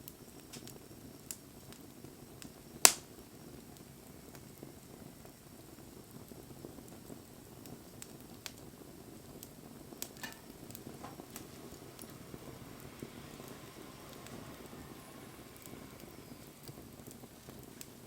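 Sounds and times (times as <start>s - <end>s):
fire crackling and popping: 0.0s - 18.0s
flames rushing: 0.0s - 18.0s.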